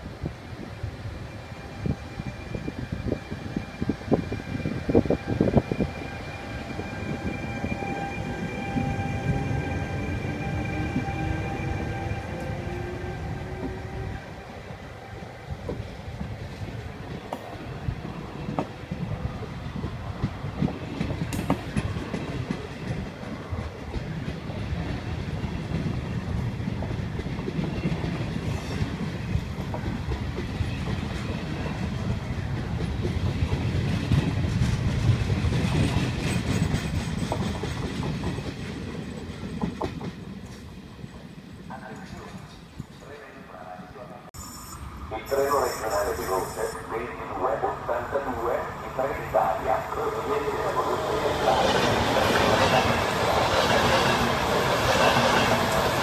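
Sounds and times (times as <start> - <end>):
train coaches rumbling past: 0.0 - 56.0.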